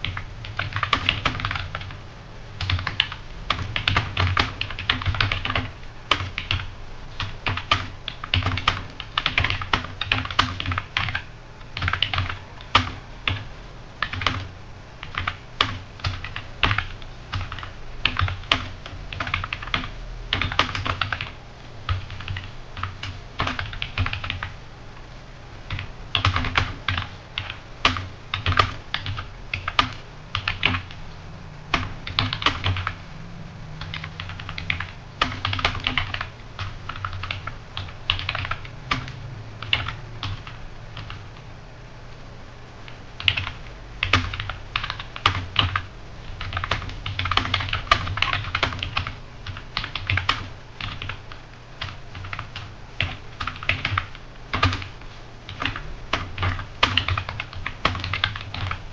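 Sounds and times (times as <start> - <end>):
fast keyboard typing: 0.0 - 2.0, 2.6 - 24.6, 25.7 - 31.1, 31.7 - 33.0, 33.7 - 41.4, 42.9 - 58.9.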